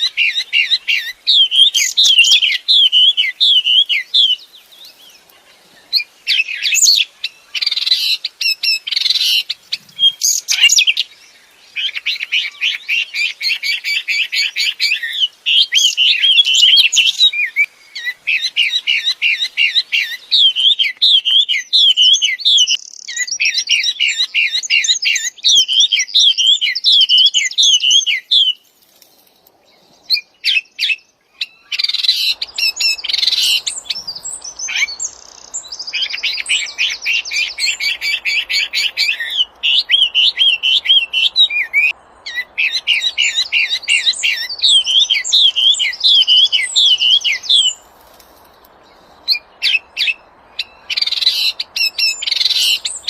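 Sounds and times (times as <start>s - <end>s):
songbird whistling and trilling: 0.0s - 5.1s, 11.8s - 28.6s, 30.0s - 47.8s, 49.2s - 53.0s.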